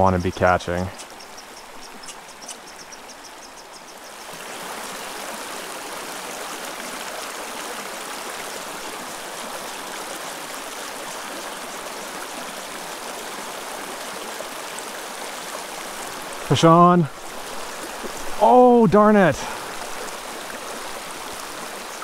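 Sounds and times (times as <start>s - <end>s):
creek water rushing over stones: 0.0s - 22.0s.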